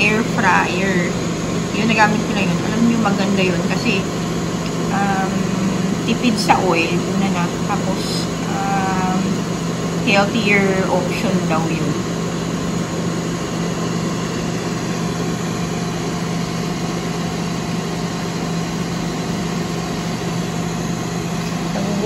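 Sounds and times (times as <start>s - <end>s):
grill fan humming: 0.0s - 22.0s.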